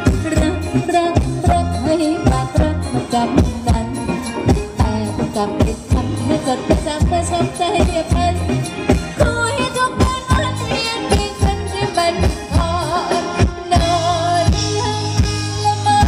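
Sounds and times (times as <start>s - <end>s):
dance band playing: 0.0s - 16.0s
drum kit steady beat: 0.0s - 16.0s.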